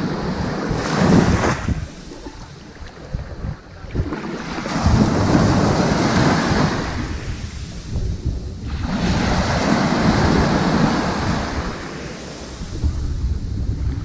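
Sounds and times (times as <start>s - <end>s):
ocean waves washing onto beach: 0.0s - 14.0s.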